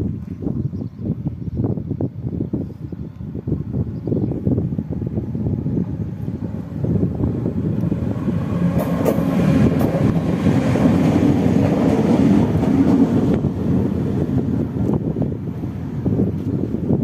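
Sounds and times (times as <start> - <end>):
locomotive hum: 2.0 - 17.0
train wheels rumbling on rails: 3.4 - 17.0.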